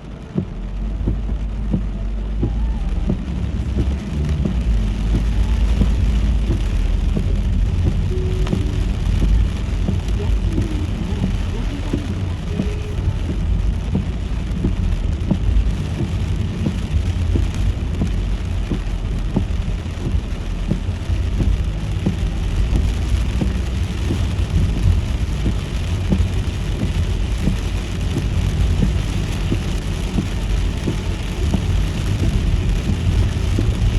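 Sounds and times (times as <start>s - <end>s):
raindrops tapping on a car: 0.0s - 33.9s
road and engine rumble: 0.0s - 33.9s.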